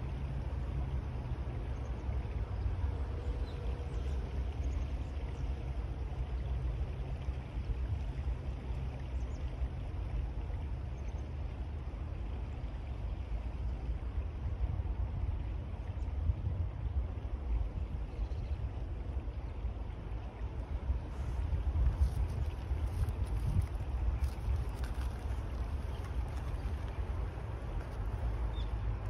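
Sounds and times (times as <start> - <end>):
water running in stream: 0.0 - 29.0
wind rumble on microphone: 0.0 - 29.0.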